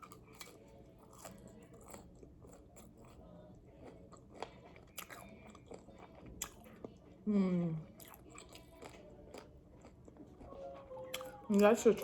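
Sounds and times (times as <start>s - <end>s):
crunching fried chicken: 0.0s - 7.0s, 8.0s - 11.5s.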